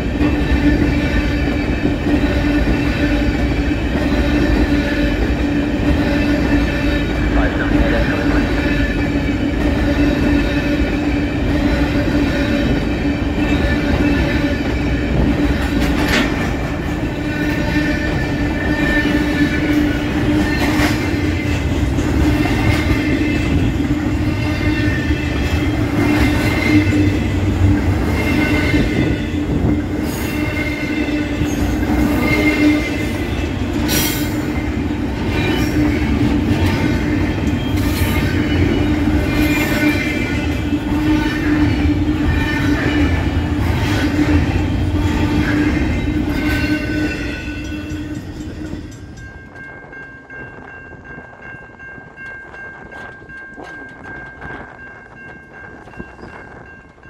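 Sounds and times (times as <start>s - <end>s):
train wheels squealing on rails: 0.0s - 57.0s.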